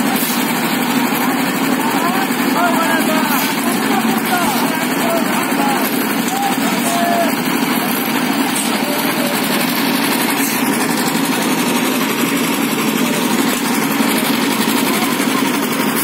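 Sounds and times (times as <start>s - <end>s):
concrete mixer engines running: 0.0s - 16.0s.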